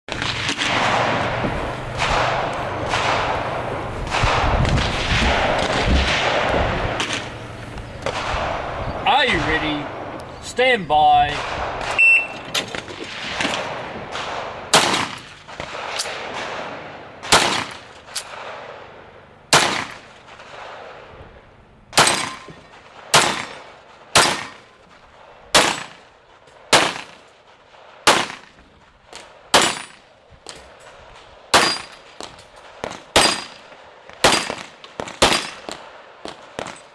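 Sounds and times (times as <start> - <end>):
pistol shots with echo: 0.4 - 7.4, 8.0 - 10.1, 11.2 - 12.3, 13.0 - 18.9, 19.5 - 21.0, 22.0 - 24.8, 25.5 - 30.7, 31.5 - 36.9.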